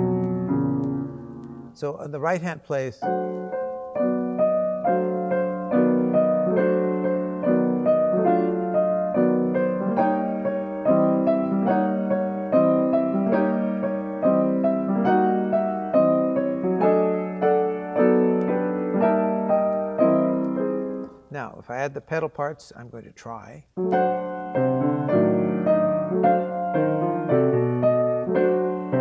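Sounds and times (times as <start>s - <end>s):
piano chords: 0.0s - 2.4s, 3.0s - 21.3s, 23.8s - 29.0s.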